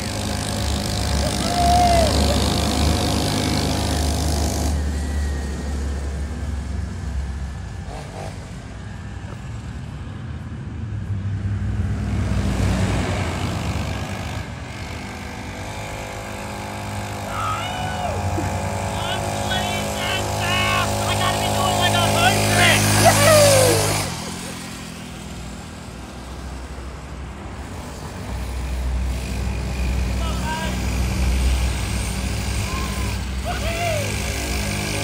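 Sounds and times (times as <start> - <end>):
small dirt bike engine running: 0.0 - 10.0, 12.2 - 35.0.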